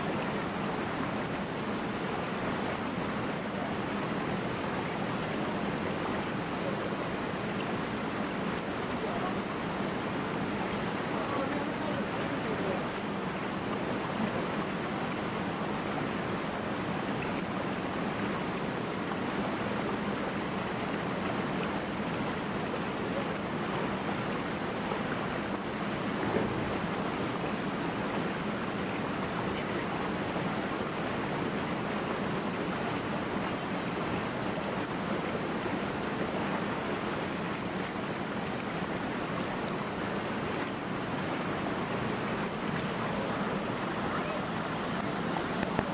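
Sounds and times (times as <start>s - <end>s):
water rushing over boulders: 0.0s - 45.9s.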